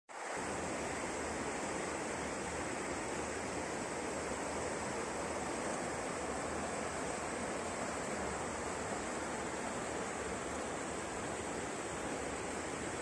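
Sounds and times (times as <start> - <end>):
river rushing over rocks: 0.1 - 13.0.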